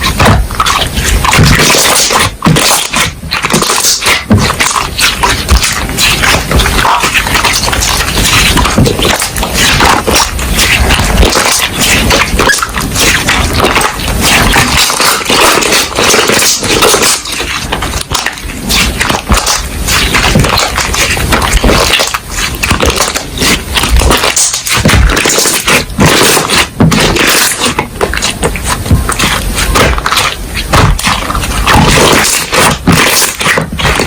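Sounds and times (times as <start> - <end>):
hands squishing slime: 0.0 - 34.0.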